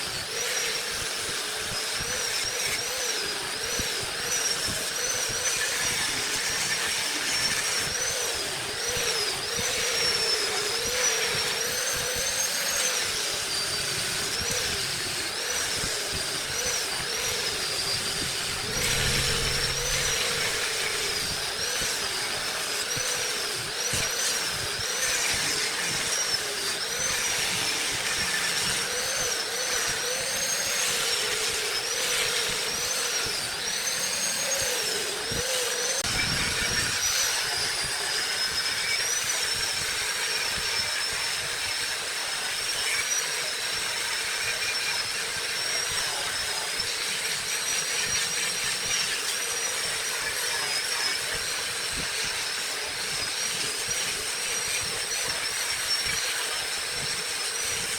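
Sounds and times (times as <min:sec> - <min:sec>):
wood lathe motor whine: 0:00.0 - 0:57.9.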